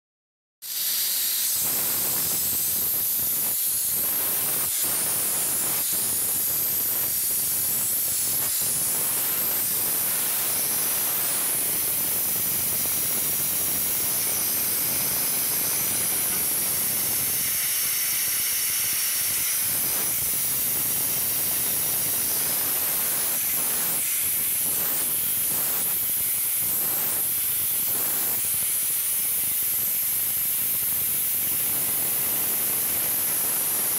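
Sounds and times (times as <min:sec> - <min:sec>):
burner flame hissing: 0:00.7 - 0:28.6.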